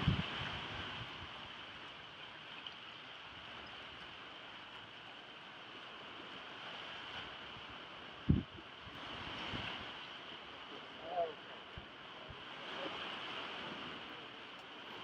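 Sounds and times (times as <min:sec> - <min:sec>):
small waves washing over rocks: 0:00.0 - 0:15.0.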